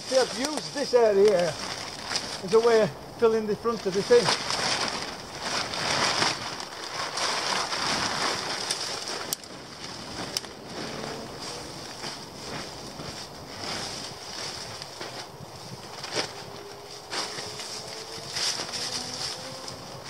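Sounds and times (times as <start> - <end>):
dry leaves and fabric rustling: 0.0 - 20.0.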